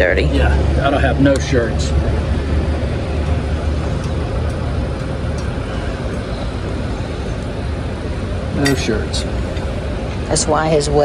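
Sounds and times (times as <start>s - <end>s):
faint hum: 0.0s - 11.0s
low mechanical rumble: 0.0s - 11.0s.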